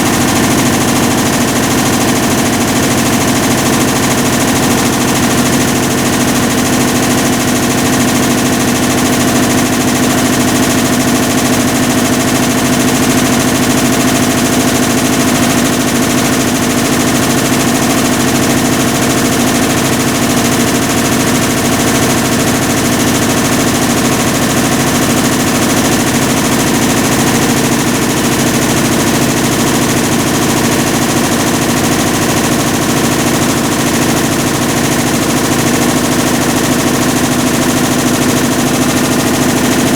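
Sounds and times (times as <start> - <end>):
washing machine rattling grind: 0.0 - 39.9.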